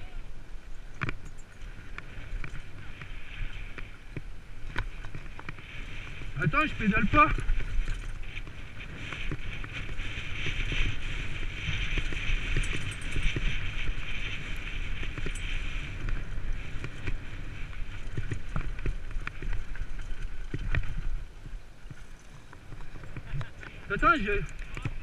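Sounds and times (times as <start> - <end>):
bike tyres rolling on gravel: 0.0 - 25.0
wind rumble on microphone: 0.0 - 25.0
bike knocking and rattling: 0.8 - 25.0.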